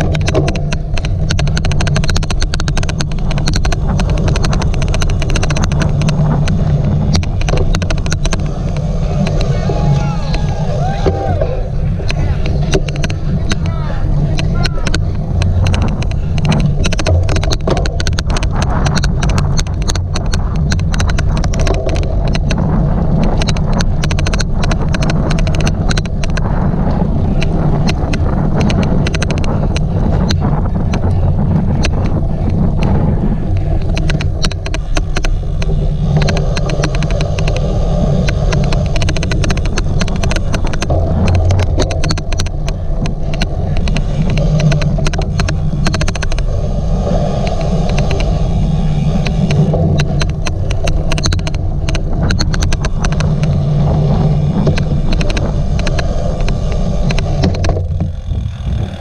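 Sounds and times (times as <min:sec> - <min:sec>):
bike riding over rough ground: 0:00.0 - 0:59.0
fast irregular sharp clicks: 0:00.0 - 0:59.0
wind on microphone: 0:00.0 - 0:59.0.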